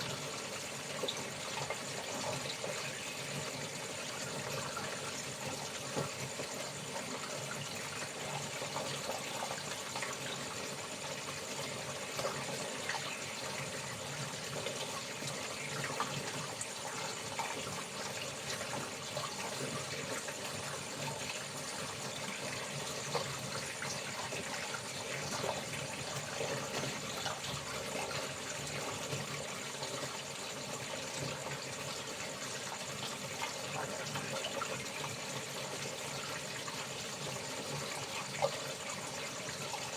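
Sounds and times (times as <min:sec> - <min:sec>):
insects chirping: 0:00.0 - 0:39.9
water running: 0:00.0 - 0:39.9.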